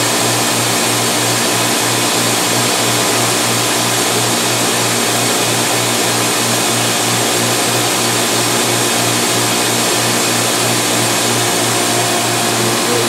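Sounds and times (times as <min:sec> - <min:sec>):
grinder hissing and humming: 0:00.0 - 0:13.0.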